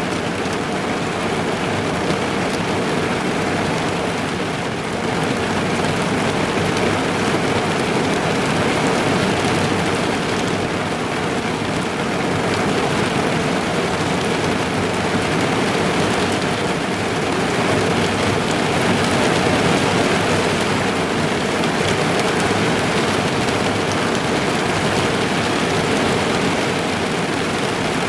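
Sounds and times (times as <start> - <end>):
heavy rain on a car roof: 0.0 - 28.0.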